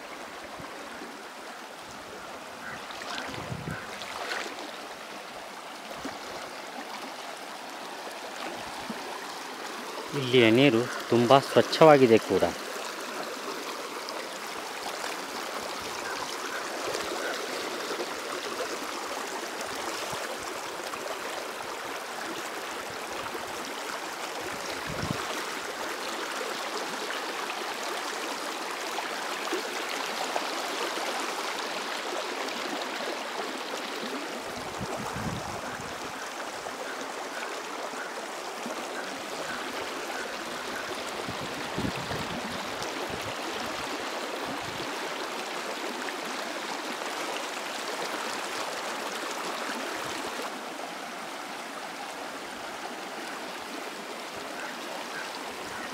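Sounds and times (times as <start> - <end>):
river water flowing over rocks: 0.0 - 55.9.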